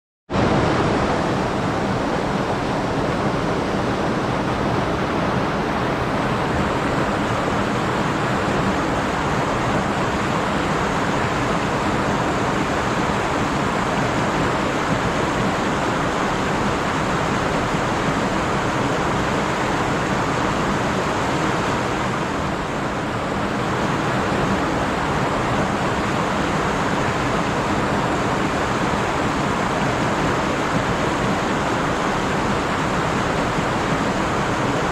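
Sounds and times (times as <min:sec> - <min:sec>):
stream rushing over rocks: 0:00.3 - 0:34.9.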